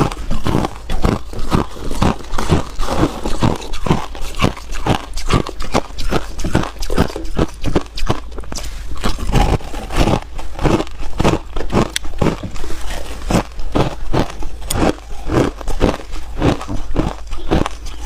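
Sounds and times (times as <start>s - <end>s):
person chewing ice cubes: 0.0s - 18.0s.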